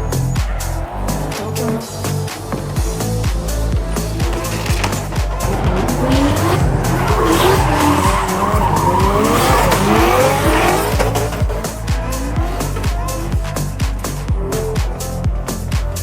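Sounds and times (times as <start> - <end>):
tyres squealing: 0.0 - 14.3
car engine revving: 0.0 - 15.7
hip-hop music: 0.0 - 16.0.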